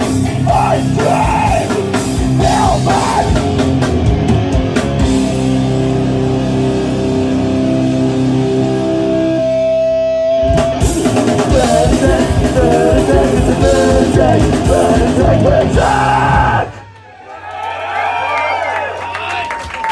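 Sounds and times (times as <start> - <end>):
distorted guitar chord: 0.0 - 16.6
punk rock band playing live: 0.0 - 16.9.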